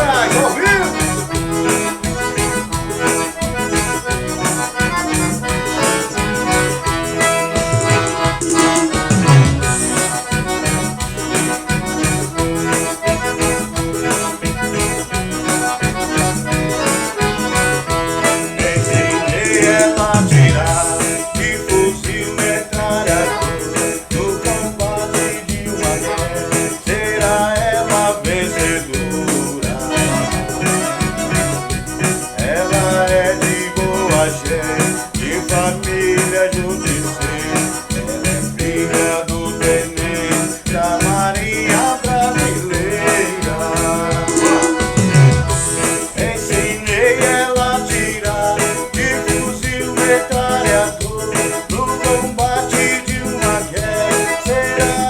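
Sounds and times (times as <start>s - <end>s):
accordion: 0.0s - 55.0s
band playing: 0.0s - 55.0s.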